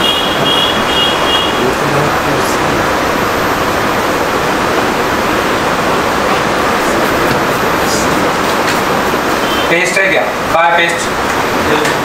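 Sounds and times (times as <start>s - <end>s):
hot air blowing: 0.0s - 12.0s.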